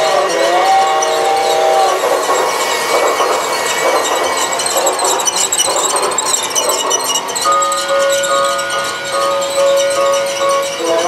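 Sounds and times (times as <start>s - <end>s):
toy train whirring rattle: 0.0s - 11.0s.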